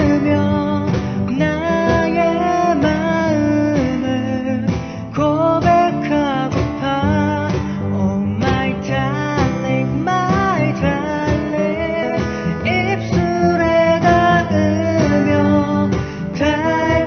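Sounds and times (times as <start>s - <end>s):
acoustic guitar strumming: 0.0s - 17.0s
person singing: 0.0s - 17.0s.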